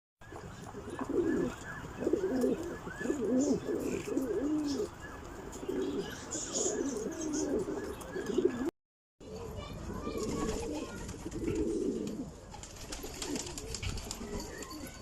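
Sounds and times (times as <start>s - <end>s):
pigeons cooing: 0.2s - 8.7s, 10.1s - 14.8s.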